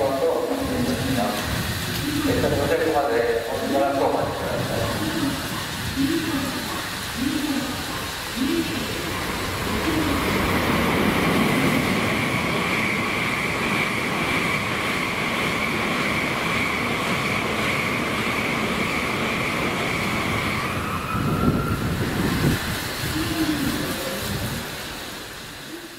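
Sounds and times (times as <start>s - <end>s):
high-speed train passing: 0.0s - 25.9s.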